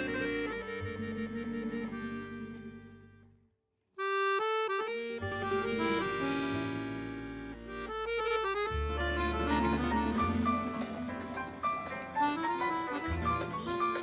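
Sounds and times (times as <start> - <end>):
melancholy accordion solo: 0.0 - 3.3, 4.0 - 14.0.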